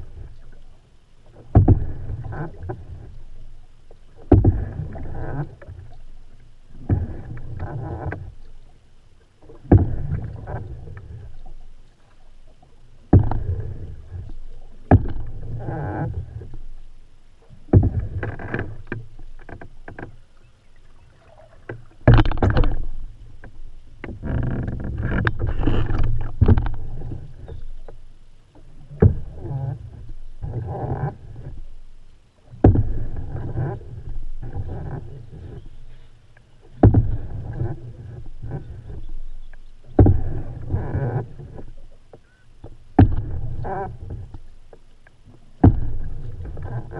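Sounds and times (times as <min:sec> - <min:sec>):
canoe paddle strokes in water: 0:00.0 - 0:46.9.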